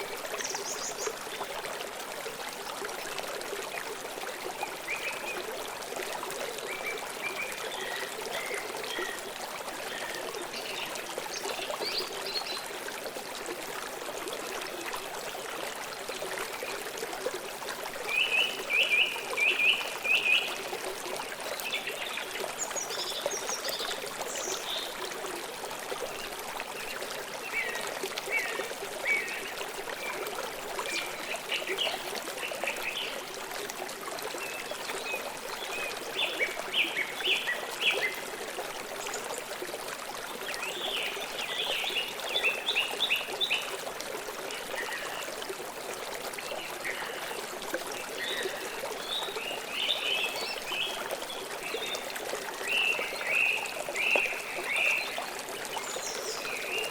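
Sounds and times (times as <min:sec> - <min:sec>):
stream water flowing: 0:00.0 - 0:56.9.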